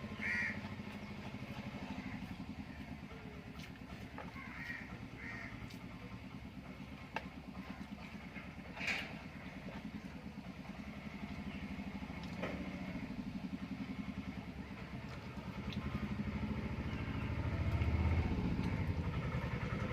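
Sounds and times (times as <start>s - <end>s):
small engine running: 0.0s - 19.9s.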